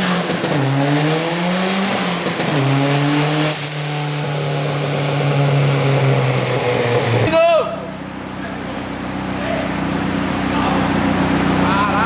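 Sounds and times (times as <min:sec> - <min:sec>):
car engine revving at full throttle: 0:00.0 - 0:12.0.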